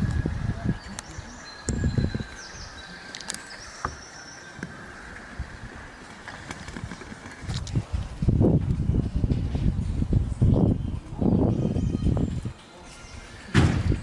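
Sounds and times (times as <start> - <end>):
birds chirping: 0.0 - 7.6, 10.0 - 14.0.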